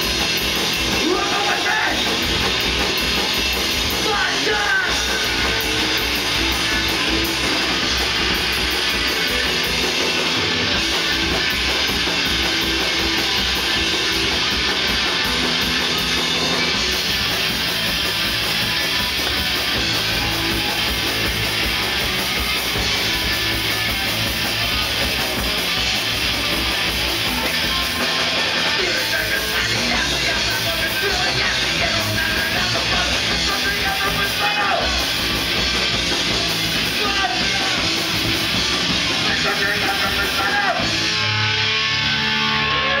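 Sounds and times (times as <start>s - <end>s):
loud rock music with guitars: 0.0s - 43.0s.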